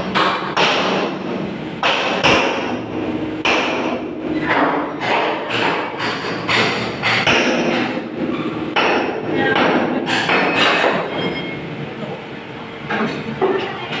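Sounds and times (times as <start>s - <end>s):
hammer striking steel: 0.0s - 11.6s.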